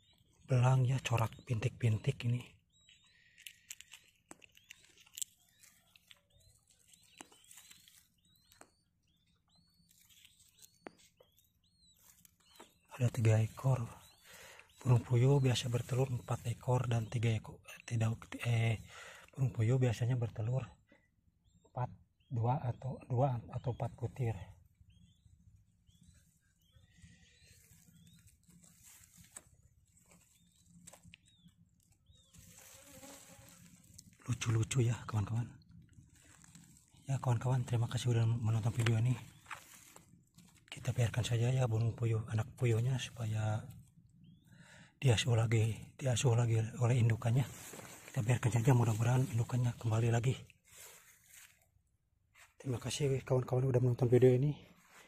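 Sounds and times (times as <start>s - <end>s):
dry grass and eggshell crackling: 0.0s - 20.4s, 23.9s - 44.4s, 45.5s - 53.3s
quail chicks peeping: 0.0s - 55.0s.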